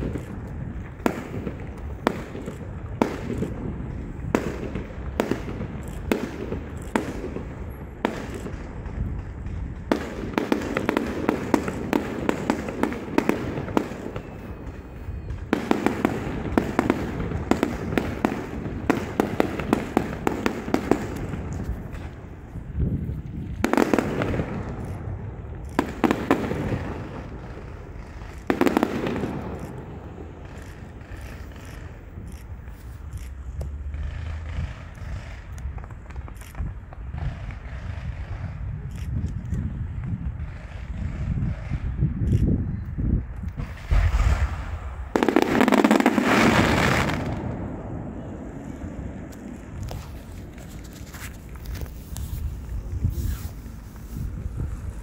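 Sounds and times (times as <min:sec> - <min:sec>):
fireworks bangs: 0:00.0 - 0:38.9, 0:43.5 - 0:55.0
crackling firework pops: 0:00.0 - 0:55.0.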